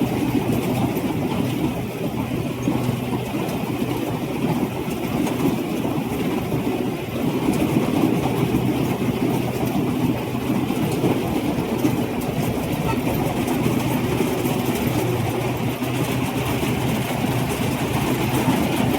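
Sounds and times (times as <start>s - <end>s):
combine harvester engine humming: 0.0s - 18.9s.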